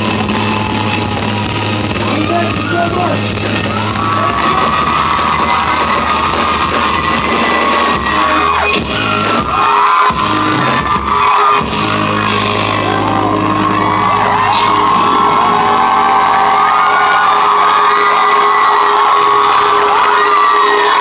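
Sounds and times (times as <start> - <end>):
amplified live band music: 0.0 - 21.0
audience yelling and screaming: 0.0 - 21.0.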